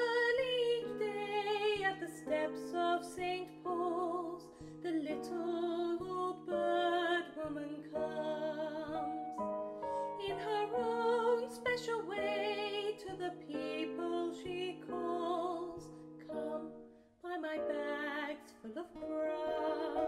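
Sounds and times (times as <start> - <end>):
woman singing with vibrato: 0.0 - 9.3, 10.1 - 20.0
piano: 0.0 - 20.0.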